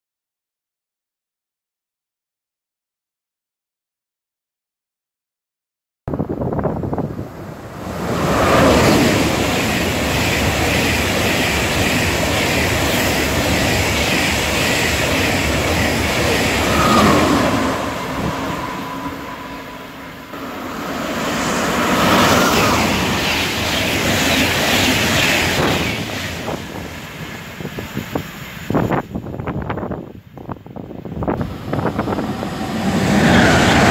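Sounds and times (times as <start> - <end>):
high-speed train passing: 6.1 - 33.9
passenger train passing: 6.1 - 33.9.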